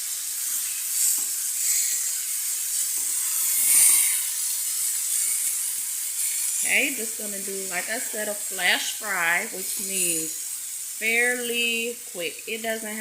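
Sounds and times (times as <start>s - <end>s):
noodles sizzling in grease: 0.0s - 13.0s.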